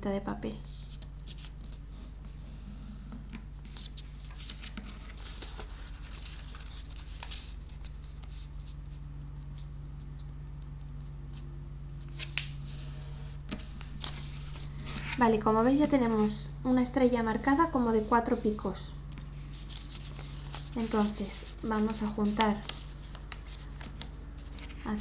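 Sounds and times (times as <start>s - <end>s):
steady low hum: 0.0s - 25.0s
paper rustling and folding: 0.6s - 2.6s, 3.3s - 16.4s, 17.2s - 25.0s.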